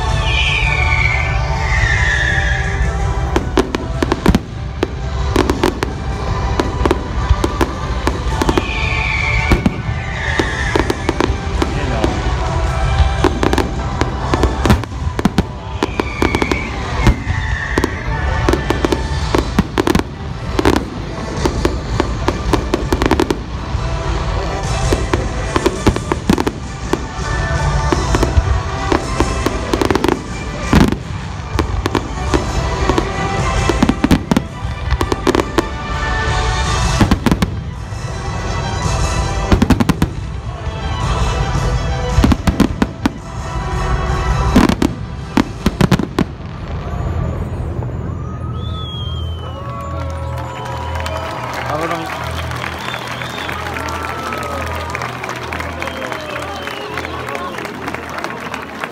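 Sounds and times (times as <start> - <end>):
fireworks bursting: 0.0 - 58.9
fireworks crackling: 0.0 - 58.9
music playing: 0.0 - 58.9.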